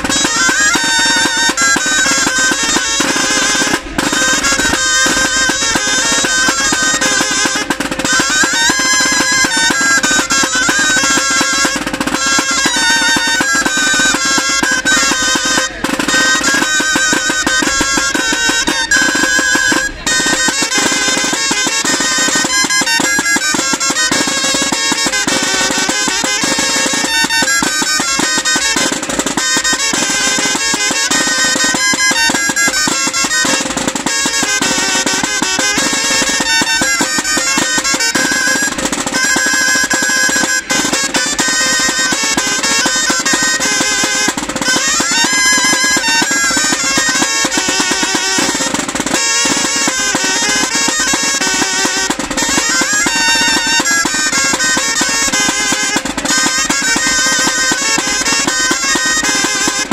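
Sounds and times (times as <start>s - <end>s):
street band drums: 0.0s - 59.9s
wind instrument melody: 0.0s - 59.9s.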